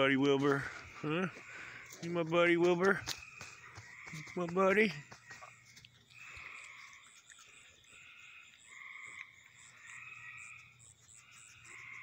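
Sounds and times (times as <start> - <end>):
frogs trilling: 0.0 - 12.0.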